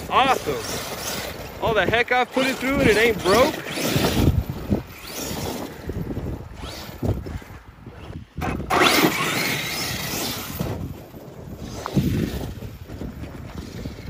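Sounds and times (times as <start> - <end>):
electric motor whining: 0.0 - 14.0
wind buffeting microphone: 0.0 - 14.0.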